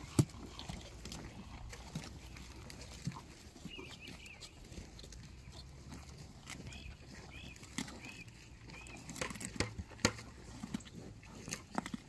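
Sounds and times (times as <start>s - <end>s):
cattle chewing vegetables: 0.0s - 12.0s.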